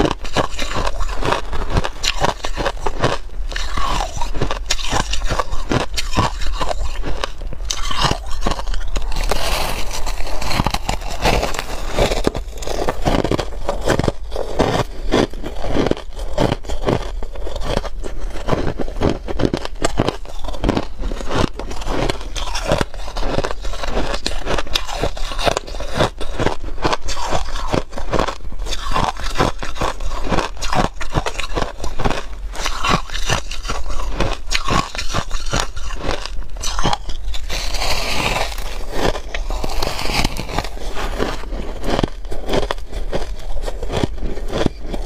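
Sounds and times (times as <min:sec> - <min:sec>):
ice crunching while chewed: 0:00.0 - 0:45.0.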